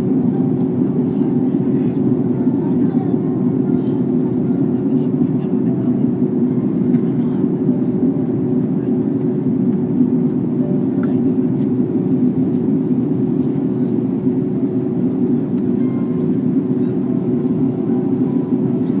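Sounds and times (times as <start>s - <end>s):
airliner low rumble: 0.0s - 19.0s.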